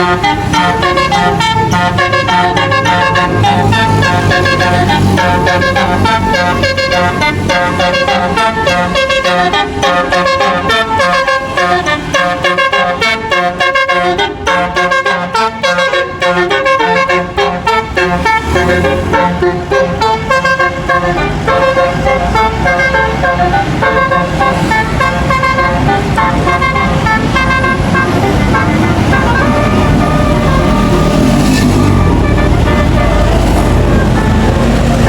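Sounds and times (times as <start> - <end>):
bus engine: 0.0 - 35.0
multi-tone bus horn tune: 0.0 - 35.0
road noise: 0.0 - 35.0.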